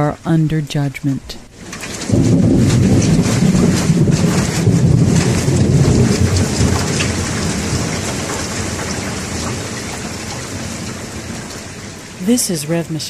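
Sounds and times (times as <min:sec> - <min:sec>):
low rumble of thunder: 0:01.4 - 0:12.8
steady rain falling: 0:01.4 - 0:13.0.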